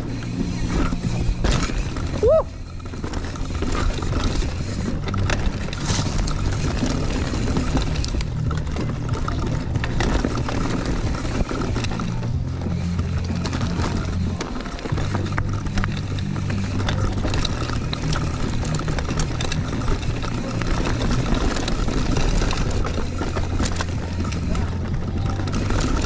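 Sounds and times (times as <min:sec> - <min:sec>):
bike trail noise: 0:00.0 - 0:26.0
music playing: 0:00.0 - 0:26.0.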